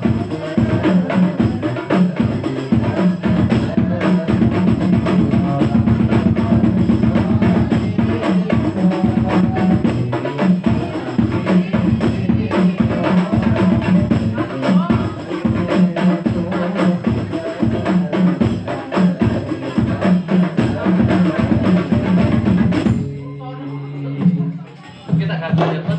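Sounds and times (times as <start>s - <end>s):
drums playing busy rhythm: 0.0s - 25.9s.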